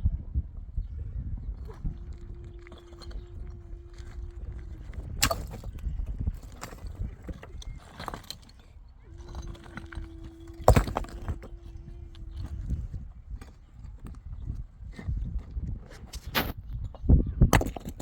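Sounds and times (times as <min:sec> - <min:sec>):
low rumbling background: 0:00.0 - 0:18.0.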